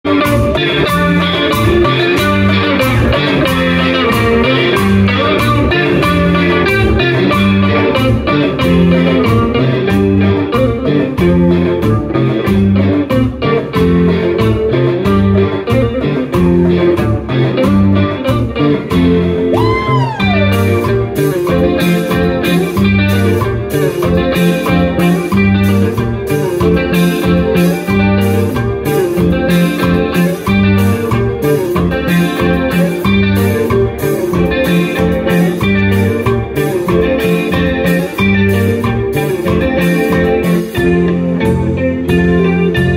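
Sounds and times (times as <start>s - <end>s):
bass line: 0.0s - 42.9s
electric guitar melody: 0.0s - 42.9s
drum kit and timbales beat: 0.1s - 42.9s.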